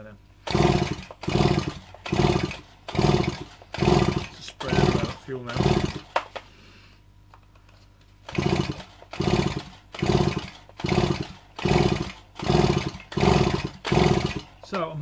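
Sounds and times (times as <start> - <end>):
chainsaw recoil starter pulls: 0.4 - 6.4, 8.2 - 14.8.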